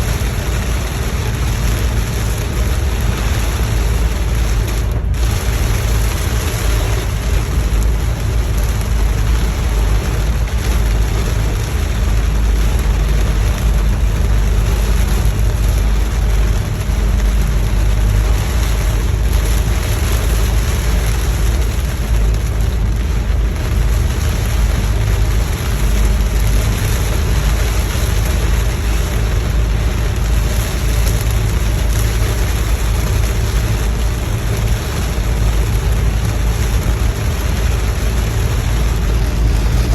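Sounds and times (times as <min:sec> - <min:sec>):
heavy rain beating on car: 0:00.0 - 0:39.9
low car rumble: 0:00.0 - 0:39.9
tyres on wet road: 0:00.0 - 0:39.9.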